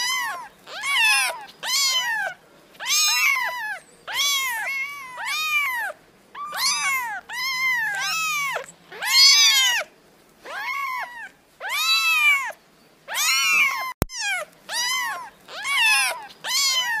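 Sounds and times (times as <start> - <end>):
kittens meowing: 0.0 - 17.0.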